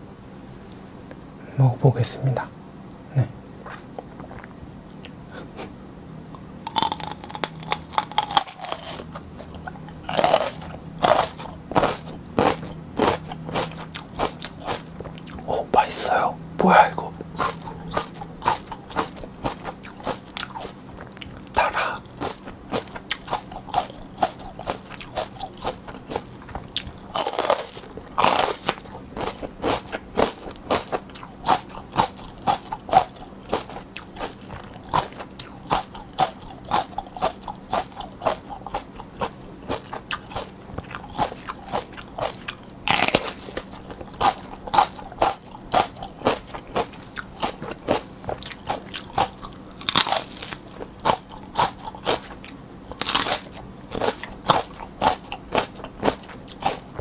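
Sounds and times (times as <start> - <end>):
close-up chewing: 3.6 - 5.4, 6.3 - 57.0
crunchy bites into peppers: 6.3 - 15.5, 16.9 - 57.0.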